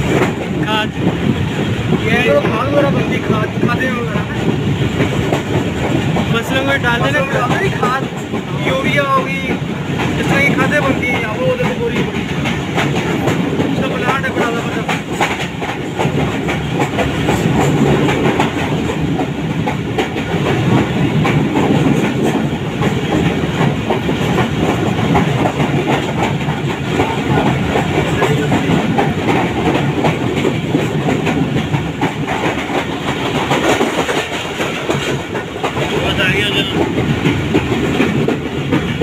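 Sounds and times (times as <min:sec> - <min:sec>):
rattling and clacking: 0:00.0 - 0:39.0
train wheels rumbling: 0:00.0 - 0:39.0.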